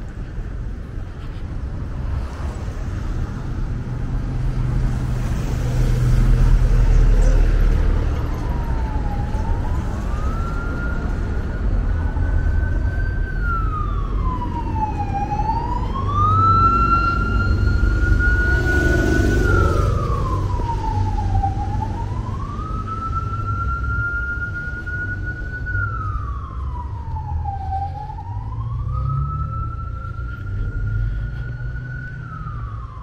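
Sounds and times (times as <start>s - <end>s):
street traffic rumble: 0.0s - 33.0s
siren wailing: 6.4s - 33.0s.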